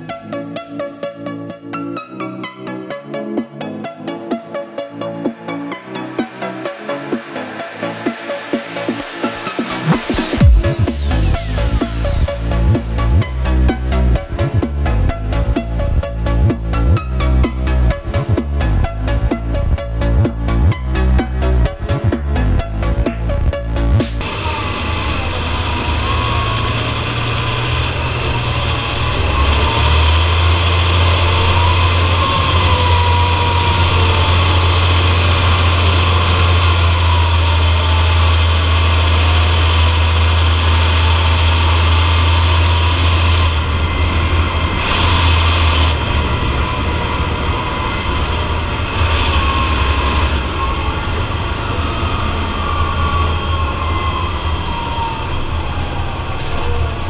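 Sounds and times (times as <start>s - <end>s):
tractor diesel engine running: 10.1s - 57.0s.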